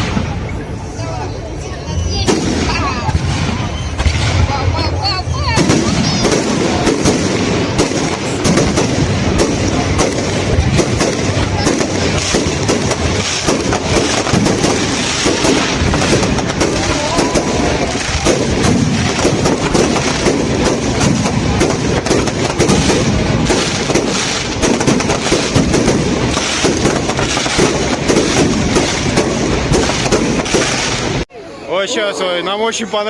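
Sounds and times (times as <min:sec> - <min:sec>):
fireworks bangs and crackling: 0:00.0 - 0:31.3.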